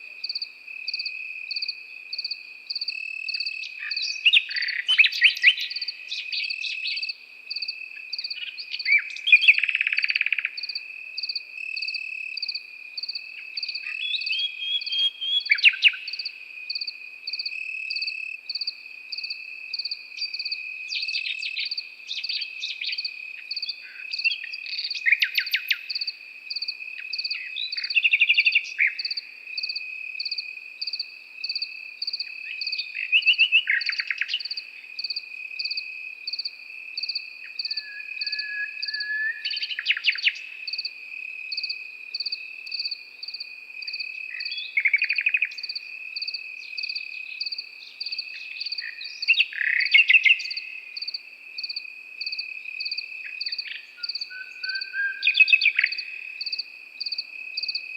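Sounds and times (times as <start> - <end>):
cricket chirping: 0.0 - 57.9
nightingale singing: 0.0 - 57.9
cricket trilling: 0.2 - 57.9.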